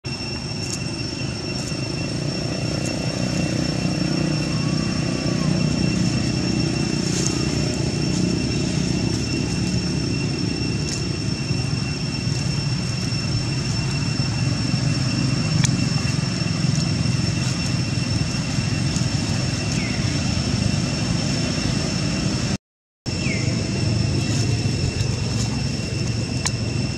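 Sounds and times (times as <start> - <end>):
high-pitched whine: 0.0 - 26.9
low rumbling: 0.1 - 26.9.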